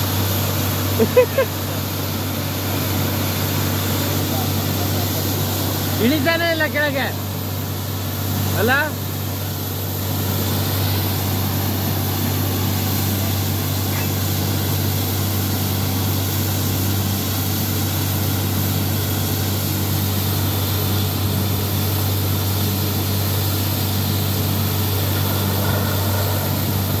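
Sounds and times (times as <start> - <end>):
drilling rig low drone: 0.0 - 27.0
hiss of air and water: 0.0 - 27.0.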